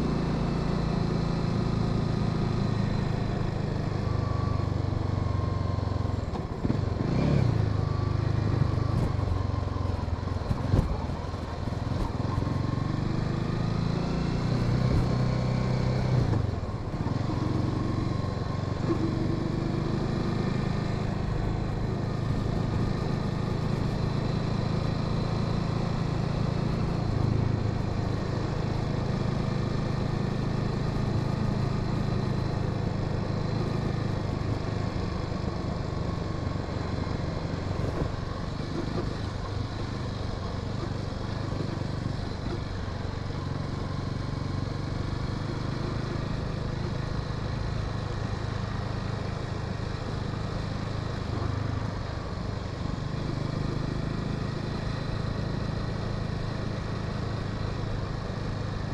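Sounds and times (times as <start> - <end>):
motorcycle engine running: 0.0 - 58.9
road and wind noise: 0.0 - 58.9.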